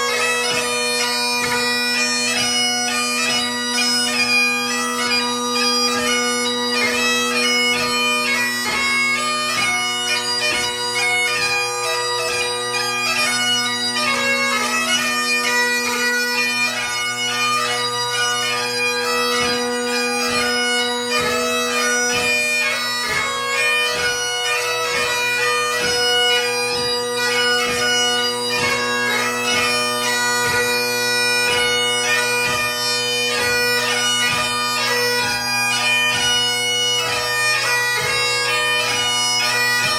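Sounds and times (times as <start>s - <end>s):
bagpipe melody with drones: 0.0s - 39.9s.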